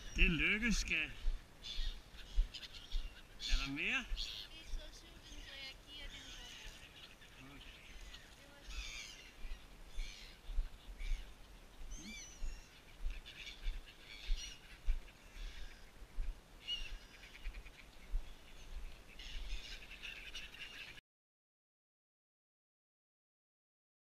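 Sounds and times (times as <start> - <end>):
gulls squawking: 0.0 - 21.0.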